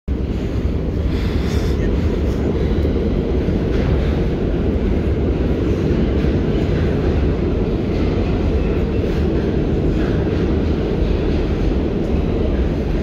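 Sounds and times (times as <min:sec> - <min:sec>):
subway train rumbling: 0:00.1 - 0:13.0.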